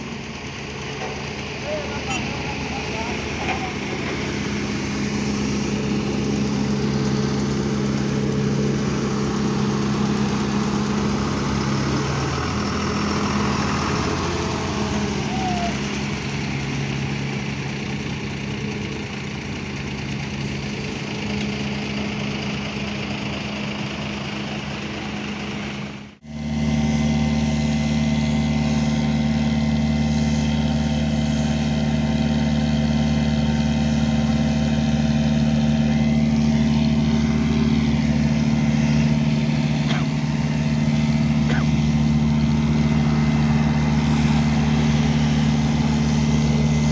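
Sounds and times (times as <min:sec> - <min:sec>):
heavy engine running: 0:00.0 - 0:46.9.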